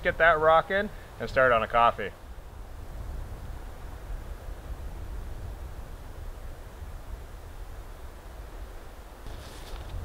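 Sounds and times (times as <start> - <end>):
wind blowing through forest: 0.0 - 10.0.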